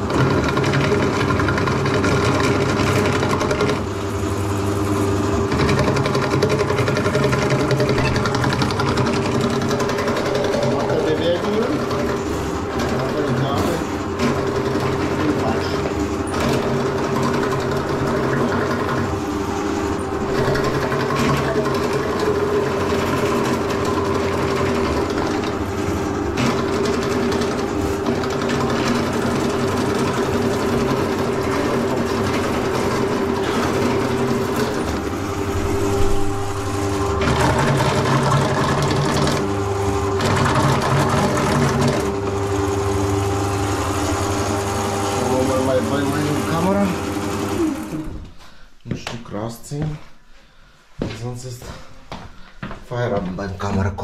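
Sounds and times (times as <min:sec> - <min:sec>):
drain cleaning machine motor hum: 0:00.0 - 0:49.8.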